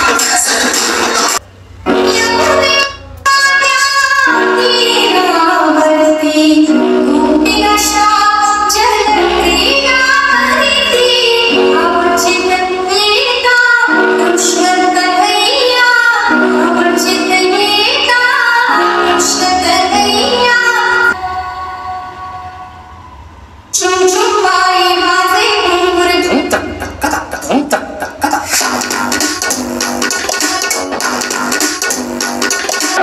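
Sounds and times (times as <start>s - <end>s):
song with female vocal on speaker: 0.0s - 22.4s, 23.8s - 29.4s.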